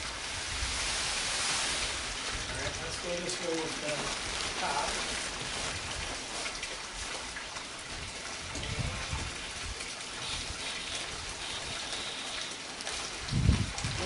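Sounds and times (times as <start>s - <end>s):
plastic sheet rustling and crinkling: 0.0s - 14.0s.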